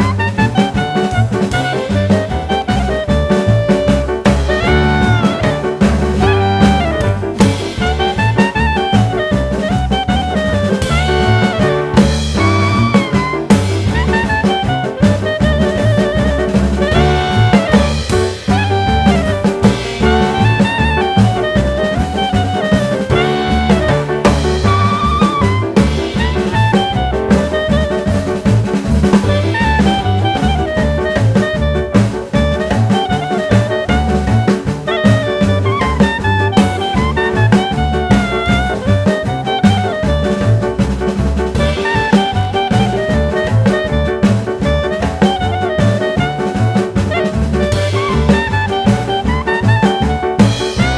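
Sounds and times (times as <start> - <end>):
drums: 0.0 - 50.9
jazz music with saxophone: 0.0 - 50.9
walking bass line: 0.0 - 50.9.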